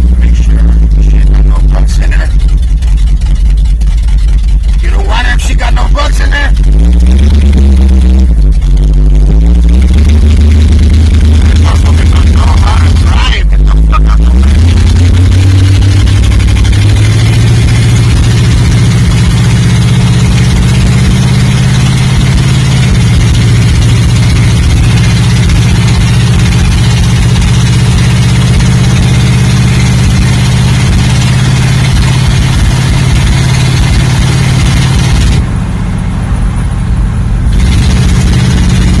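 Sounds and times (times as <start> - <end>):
engine running loud: 0.0 - 39.0.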